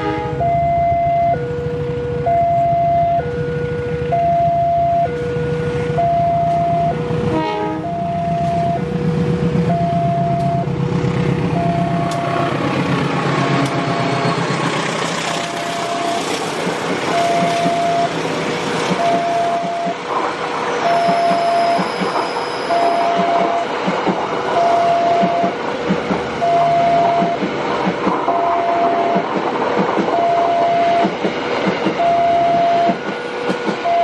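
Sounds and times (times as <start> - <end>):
two-tone crossing alarm: 0.0 - 10.8, 11.5 - 12.7, 13.3 - 20.1, 20.8 - 23.9, 24.5 - 25.7, 26.3 - 27.5, 28.2 - 29.4, 30.1 - 31.3, 32.0 - 34.0
train rolling past: 0.0 - 34.0.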